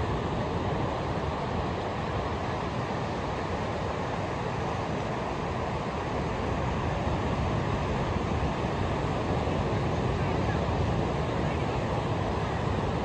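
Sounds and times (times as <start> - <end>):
ocean surf on beach: 0.0 - 13.0.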